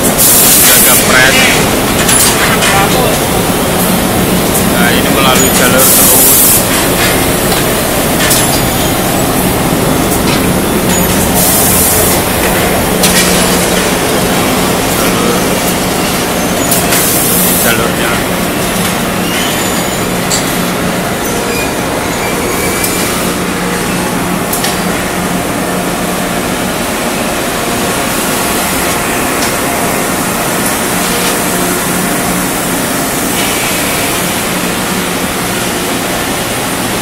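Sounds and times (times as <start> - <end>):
conveyor machinery din: 0.0 - 37.0.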